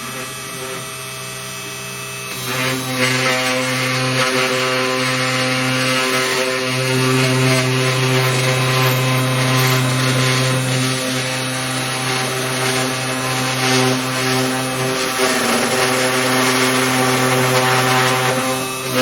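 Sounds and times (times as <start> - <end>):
spindle motor whine: 0.0 - 19.0
router bit rasping workpiece: 2.2 - 19.0.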